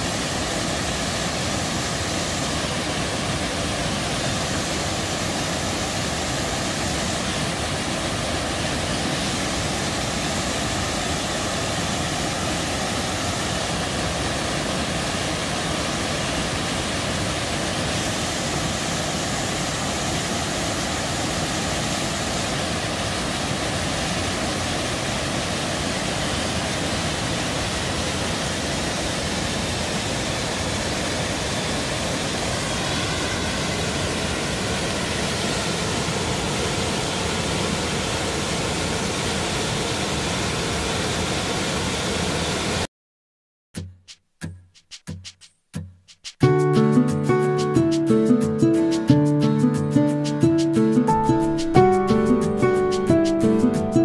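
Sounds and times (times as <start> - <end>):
waterfall rushing: 0.0 - 42.9, 46.4 - 54.0.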